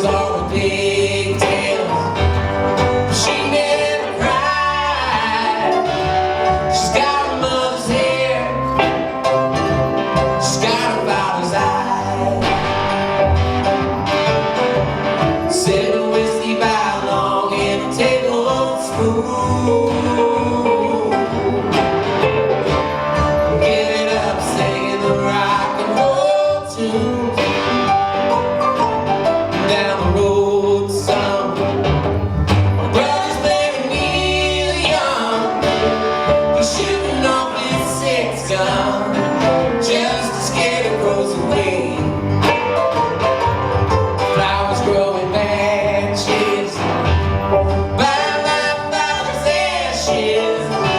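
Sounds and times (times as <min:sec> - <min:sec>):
person singing: 0:00.0 - 0:14.4, 0:15.2 - 0:28.6, 0:29.5 - 0:43.0, 0:44.0 - 0:50.9
acoustic string instruments playing: 0:00.0 - 0:50.9.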